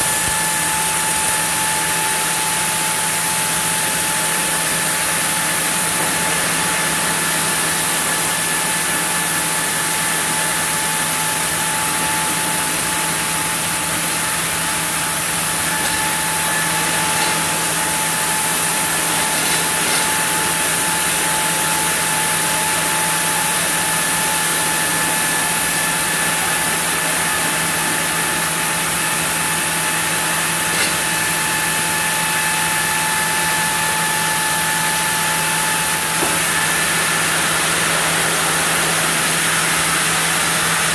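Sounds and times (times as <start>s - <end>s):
sawmill saw milling wood: 0.0s - 40.9s.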